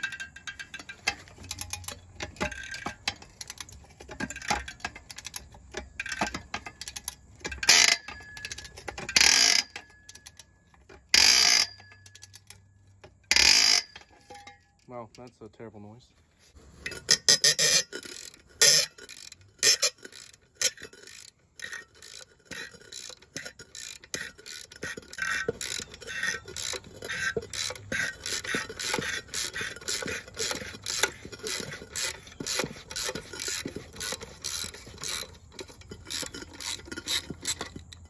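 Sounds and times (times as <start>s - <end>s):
ratchet wrench clicking: 0.0s - 15.4s, 16.8s - 38.0s
rusty threads grating: 0.0s - 38.0s.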